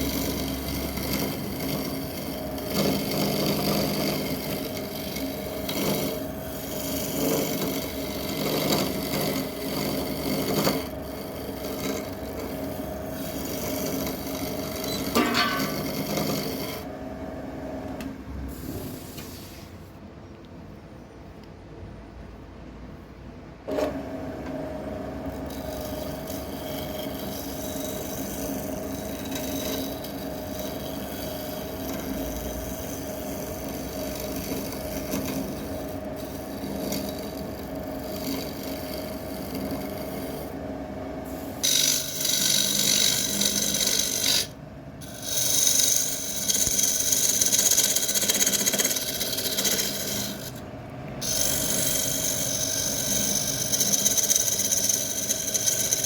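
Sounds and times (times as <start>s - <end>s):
turning tool cutting wood: 0.0s - 17.0s, 23.7s - 56.0s
wood lathe motor hum: 0.0s - 18.6s, 23.7s - 56.0s.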